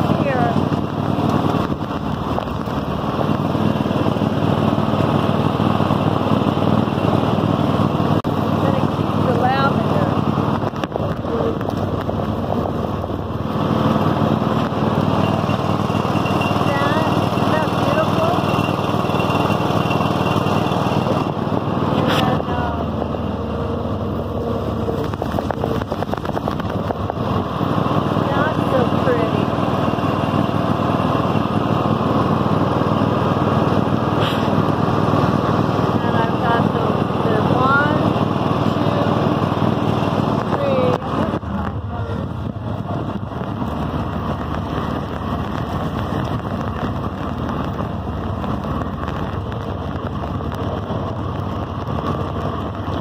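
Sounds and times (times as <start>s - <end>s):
riding mower engine running: 0.0s - 53.0s.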